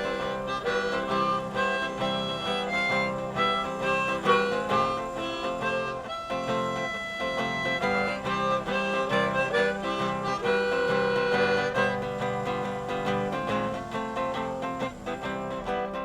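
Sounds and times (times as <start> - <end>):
blues guitar: 0.0 - 16.0
harmonica: 0.0 - 16.0.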